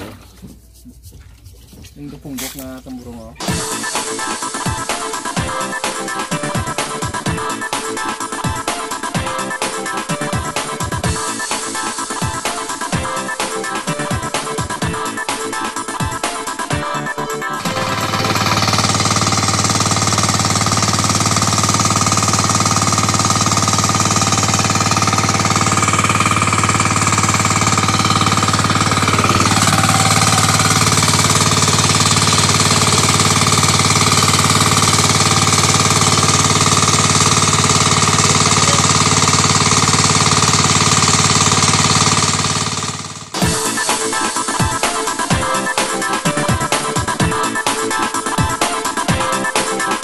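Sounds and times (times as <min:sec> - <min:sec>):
water pump engine running: 0:02.3 - 0:15.1, 0:17.6 - 0:49.7.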